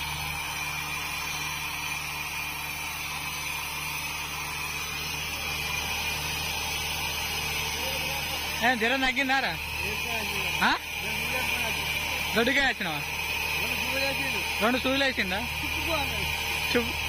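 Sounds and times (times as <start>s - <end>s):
drilling rig engine running: 0.0s - 17.0s.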